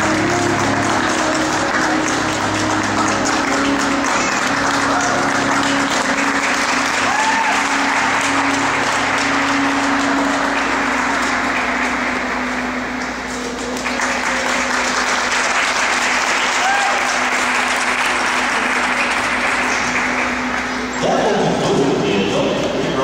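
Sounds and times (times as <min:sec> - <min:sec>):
audience applauding: 0:00.0 - 0:21.0
crowd calls: 0:00.0 - 0:22.8.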